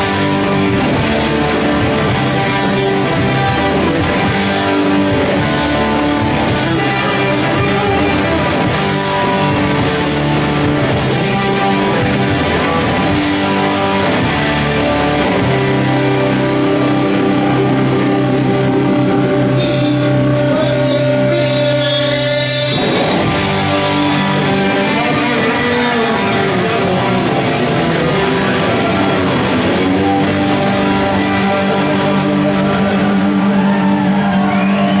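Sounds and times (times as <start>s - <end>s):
gliding guitar notes: 0.0s - 35.0s
rock band playing: 0.0s - 35.0s.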